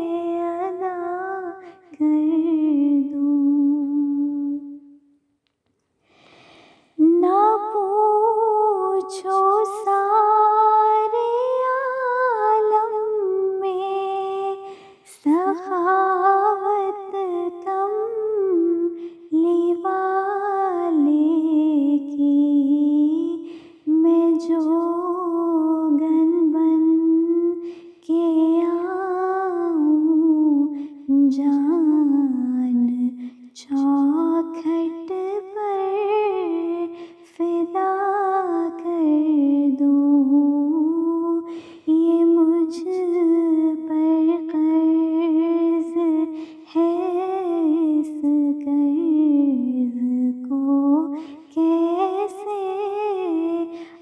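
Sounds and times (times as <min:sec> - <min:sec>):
woman singing unaccompanied: 0:00.0 - 0:05.0, 0:07.0 - 0:54.0.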